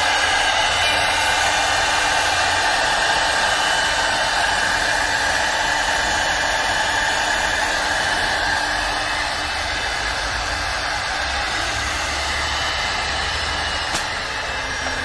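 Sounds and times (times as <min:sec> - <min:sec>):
router spindle motor whine: 0:00.0 - 0:15.0.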